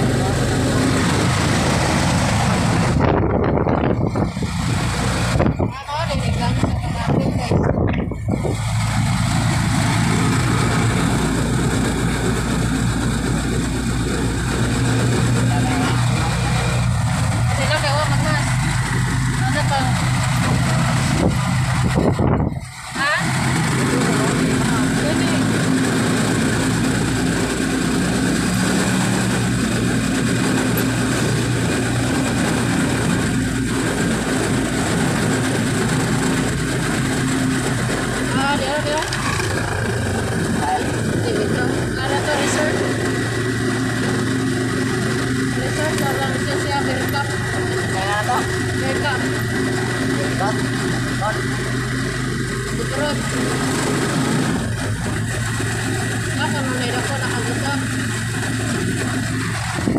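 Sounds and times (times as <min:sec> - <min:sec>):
engine humming: 0:00.0 - 0:59.9
road noise: 0:00.0 - 0:59.9.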